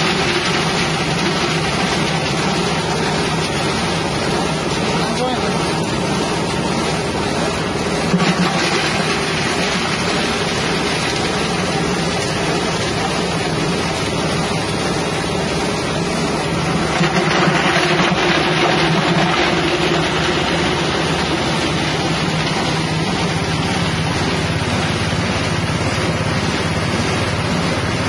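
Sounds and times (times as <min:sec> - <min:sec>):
engine-driven grinding machine: 0:00.0 - 0:28.0.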